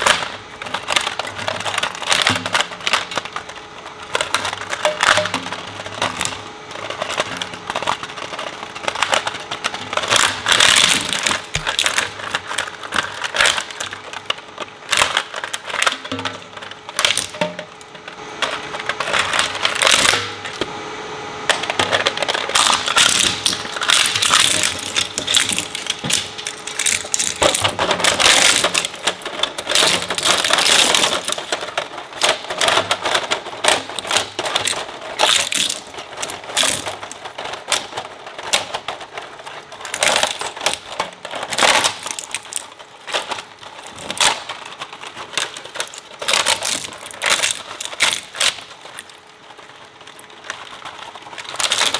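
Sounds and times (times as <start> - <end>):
shredder crushing plastic: 0.0 - 51.9.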